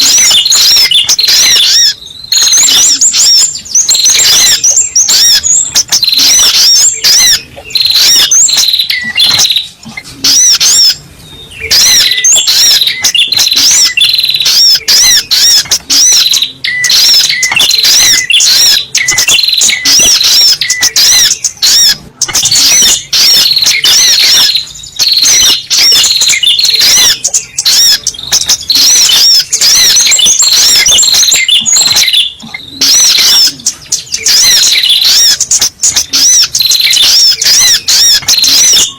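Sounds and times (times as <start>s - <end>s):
bird calling in sharp chirps: 0.0s - 38.9s.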